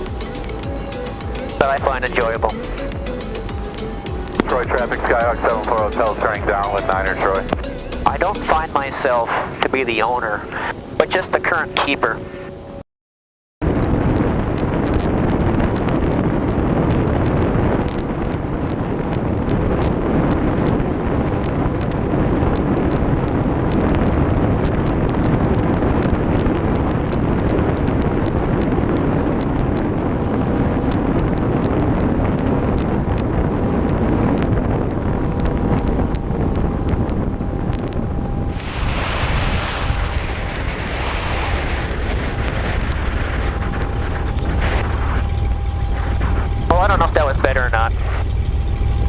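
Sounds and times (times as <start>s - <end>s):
wind buffeting crackles: 0.0s - 7.4s, 13.6s - 49.0s
wind rushing over microphone: 0.0s - 7.4s, 13.6s - 49.0s
aircraft engine drone: 0.0s - 12.8s, 13.6s - 49.0s.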